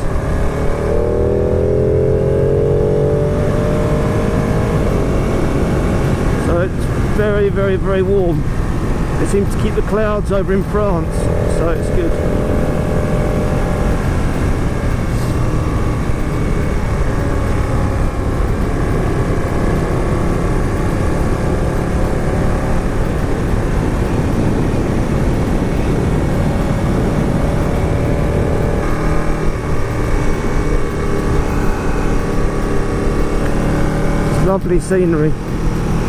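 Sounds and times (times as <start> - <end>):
motorcycle engine running: 0.0 - 36.0
wind rumble on microphone: 0.0 - 36.0.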